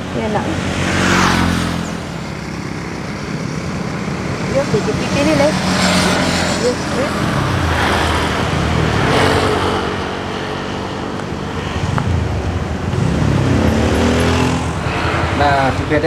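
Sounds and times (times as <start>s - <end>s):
vehicles driving past: 0.0s - 16.0s.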